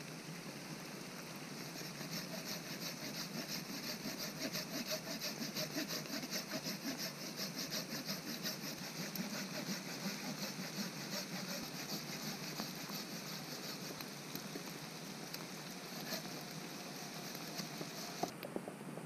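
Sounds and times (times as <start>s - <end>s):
hand saw cutting branch: 1.7s - 18.3s.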